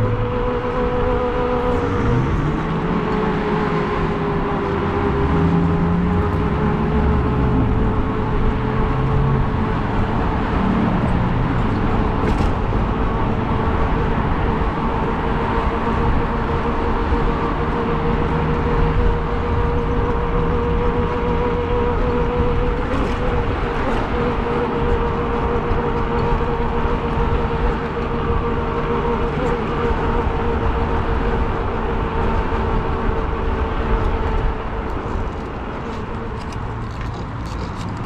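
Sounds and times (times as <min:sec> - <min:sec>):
constant motor whine: 0:00.0 - 0:38.0
traffic rumble: 0:00.0 - 0:38.0.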